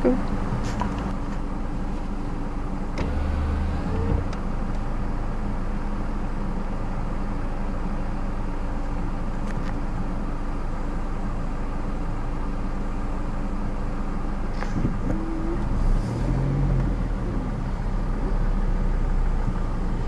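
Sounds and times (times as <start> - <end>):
car engine idling: 0.0 - 16.2, 16.8 - 20.0.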